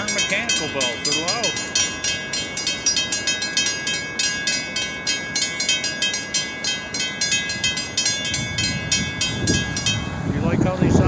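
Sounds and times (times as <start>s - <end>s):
railroad crossing bells ringing: 0.0s - 11.0s.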